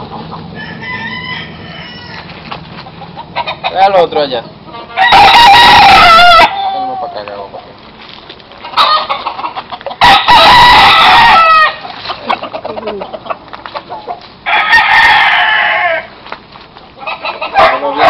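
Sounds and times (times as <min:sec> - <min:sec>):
roosters crowing: 0:00.0 - 0:07.5, 0:08.6 - 0:18.0.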